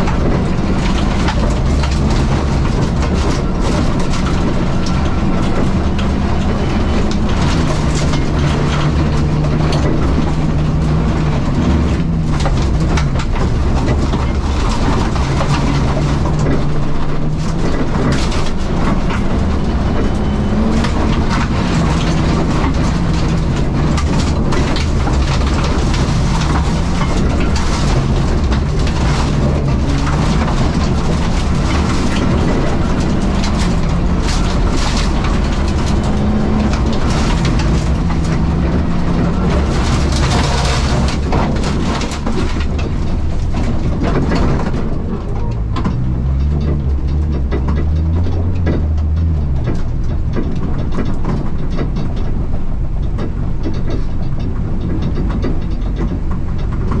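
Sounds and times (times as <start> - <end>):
car engine revving: 0.0 - 57.0
stones crackling against car body: 0.0 - 57.0.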